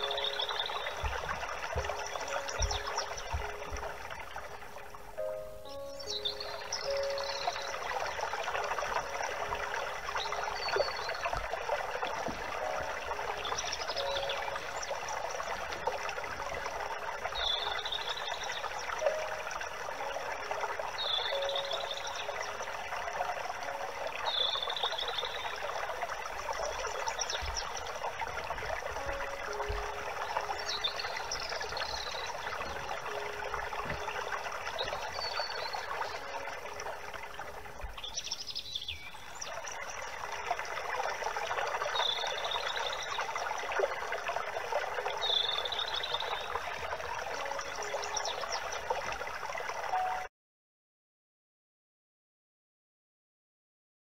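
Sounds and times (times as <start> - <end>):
birds chirping: 0.0 - 40.3, 41.8 - 44.3, 44.9 - 49.0
running water rushing: 0.0 - 50.3.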